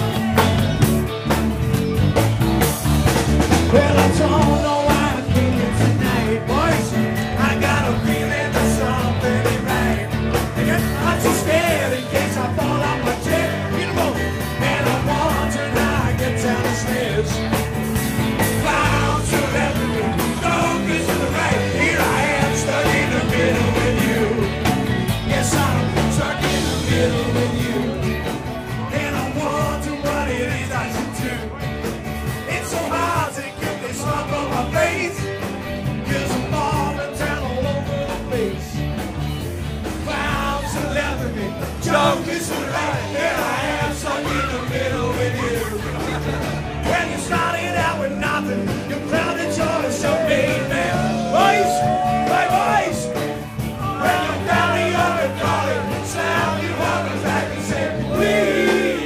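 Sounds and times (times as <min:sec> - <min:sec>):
live rock band with singer: 0:00.0 - 0:59.0.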